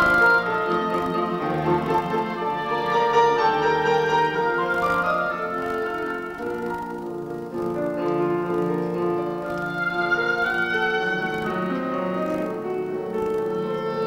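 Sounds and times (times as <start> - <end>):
piano and string quartet playing: 0.0 - 14.0.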